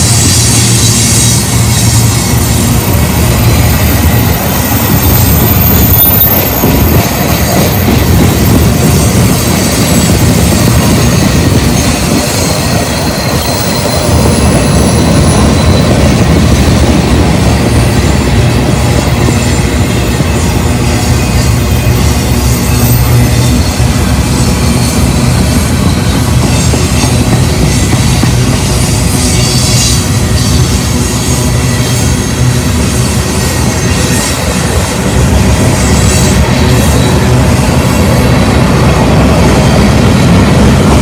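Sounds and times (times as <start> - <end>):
freight train wheels rumbling on rails: 0.0 - 41.0.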